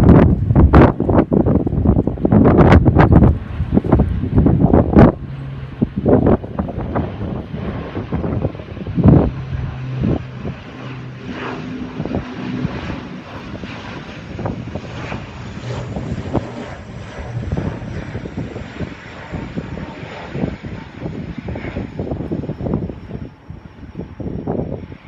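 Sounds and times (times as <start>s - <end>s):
propeller airplane droning: 0.0s - 25.0s
wind buffeting microphone: 0.0s - 25.0s.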